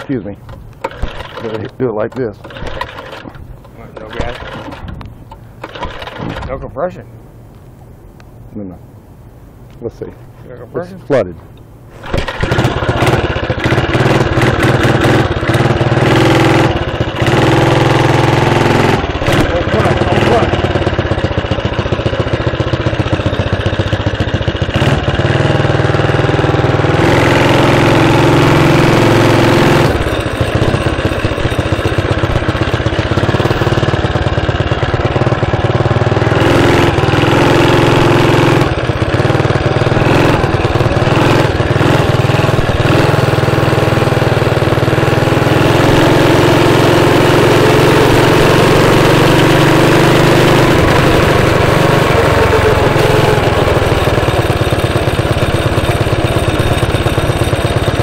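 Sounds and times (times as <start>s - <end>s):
small petrol engine running: 0.0s - 5.0s, 5.6s - 6.6s, 11.9s - 58.0s.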